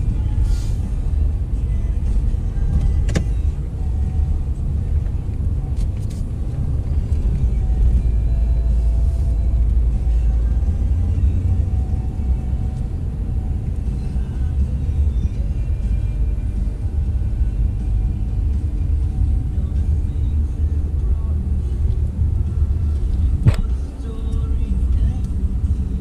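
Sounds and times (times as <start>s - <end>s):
car cabin road rumble: 0.0s - 26.0s
faint music: 0.0s - 26.0s.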